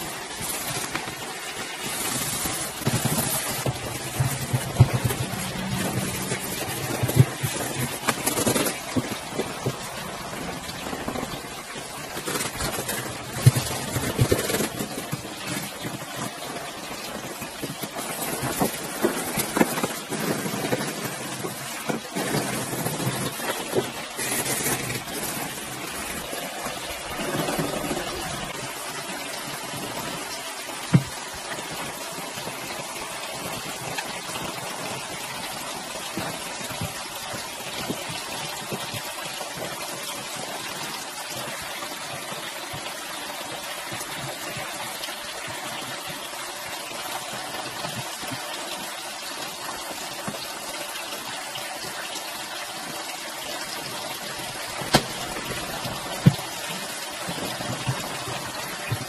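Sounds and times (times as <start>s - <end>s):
water gushing: 0.0s - 59.0s.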